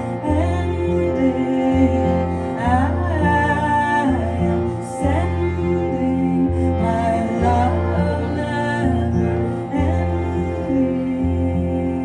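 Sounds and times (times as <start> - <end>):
cello: 0.0 - 12.0
woman singing: 0.0 - 12.0.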